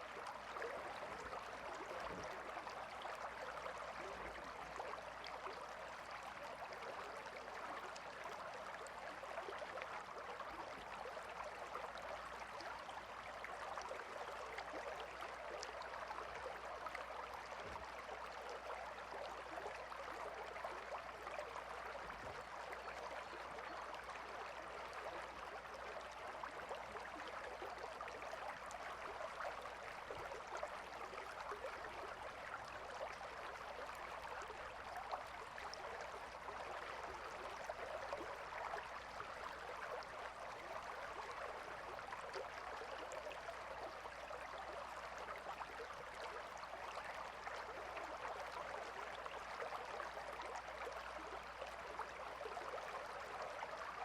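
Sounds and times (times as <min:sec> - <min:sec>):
river water babbling: 0:00.0 - 0:54.0.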